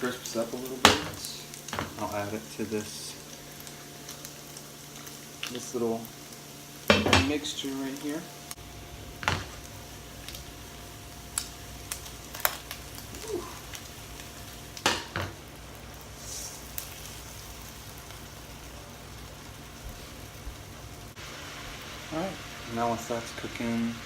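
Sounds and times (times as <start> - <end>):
meat sizzling in a pan: 0.0 - 24.0.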